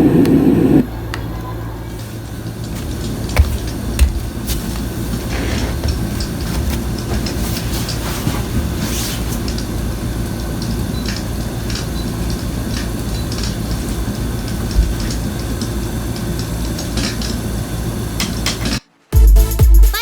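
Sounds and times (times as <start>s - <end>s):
train rumbling on rails: 0.0s - 18.8s.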